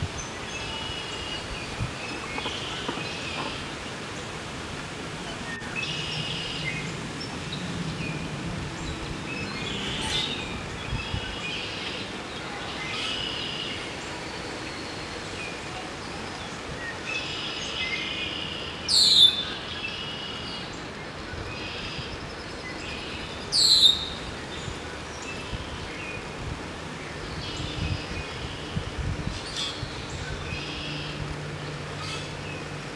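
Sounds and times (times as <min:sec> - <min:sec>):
outdoor background noise: 0:00.0 - 0:32.9
songbirds chirping: 0:00.0 - 0:32.9.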